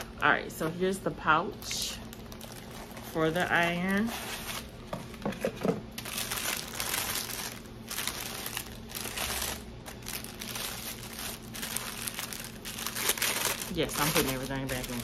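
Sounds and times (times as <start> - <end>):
packaging crinkling and rustling: 1.5 - 15.0.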